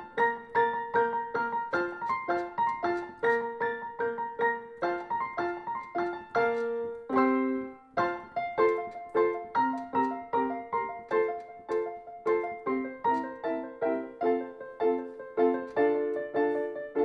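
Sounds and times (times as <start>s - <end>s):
piano single notes: 0.0s - 17.0s.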